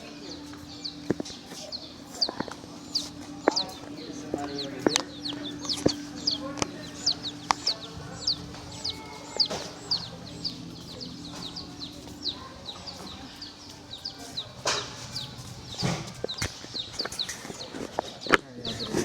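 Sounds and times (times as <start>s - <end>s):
baby chicks peeping: 0.0s - 19.0s.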